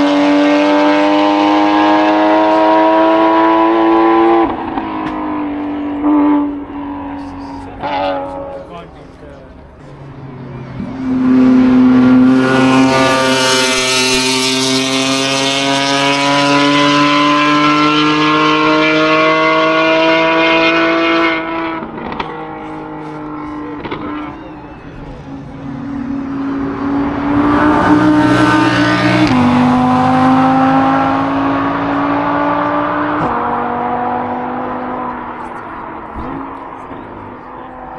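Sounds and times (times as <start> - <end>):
race car engine accelerating: 0.0 - 9.0, 9.8 - 37.9.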